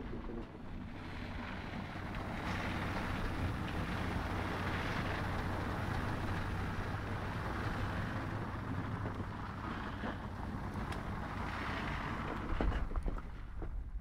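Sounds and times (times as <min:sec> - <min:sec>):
traffic hum: 0:00.0 - 0:14.0
car moving through snow: 0:00.1 - 0:13.9.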